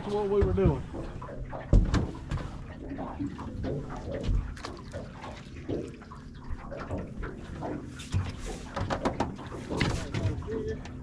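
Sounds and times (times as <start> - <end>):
water sloshing against a boat: 0.0 - 11.0.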